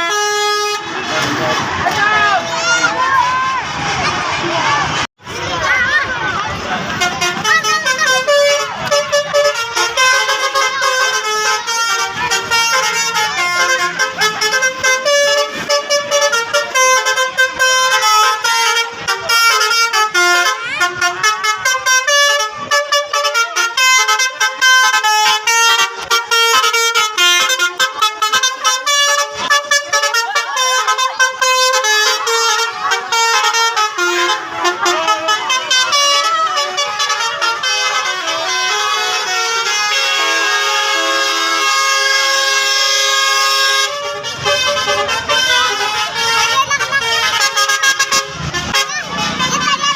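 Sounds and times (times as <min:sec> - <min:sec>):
multi-tone musical bus horn: 0:00.0 - 0:03.8, 0:04.7 - 0:49.9.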